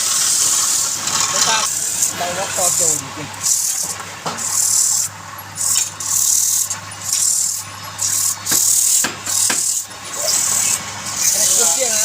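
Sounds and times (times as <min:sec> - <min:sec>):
scraping strokes on wood: 0:01.0 - 0:11.5.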